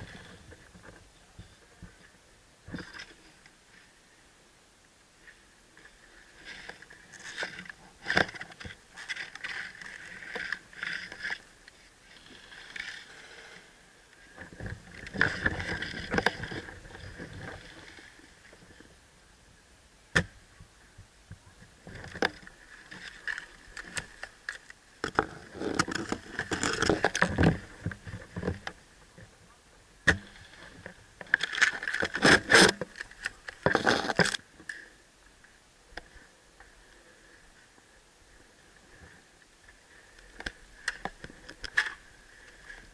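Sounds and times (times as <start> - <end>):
rustling and scraping of gear: 0.0 - 3.9, 5.2 - 19.0, 21.6 - 29.4, 30.1 - 35.0, 38.4 - 42.9.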